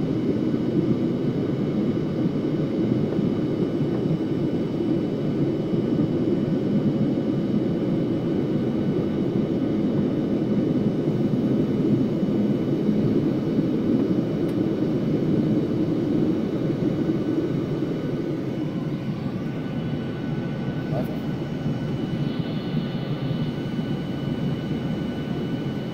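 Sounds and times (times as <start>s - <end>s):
airliner cabin engine noise: 0.0s - 25.9s.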